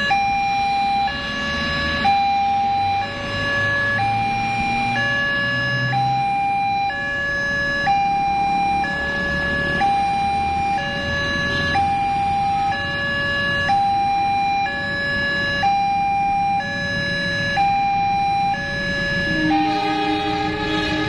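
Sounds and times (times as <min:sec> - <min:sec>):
level crossing two-tone alarm: 0:00.0 - 0:21.0.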